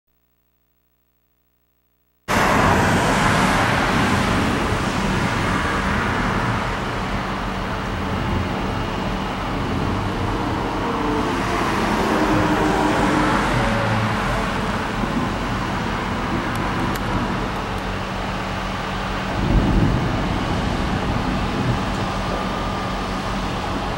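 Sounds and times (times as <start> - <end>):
cars passing: 2.3 - 23.9
road traffic noise: 2.3 - 23.9.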